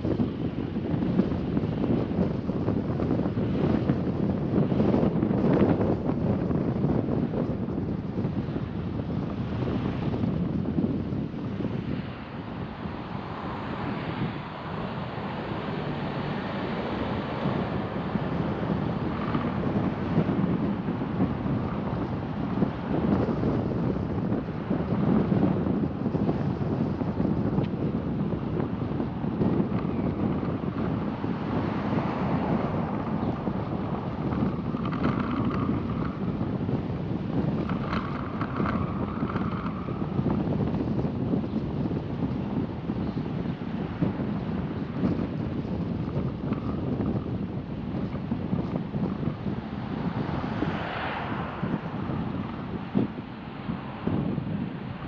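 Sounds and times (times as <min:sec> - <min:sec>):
car road and engine noise: 0:00.0 - 0:55.0
wind on microphone: 0:00.0 - 0:55.0.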